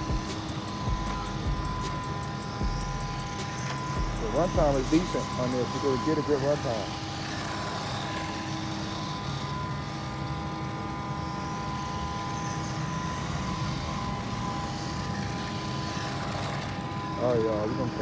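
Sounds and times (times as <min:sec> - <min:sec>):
rc truck motor whining: 0:00.0 - 0:18.0.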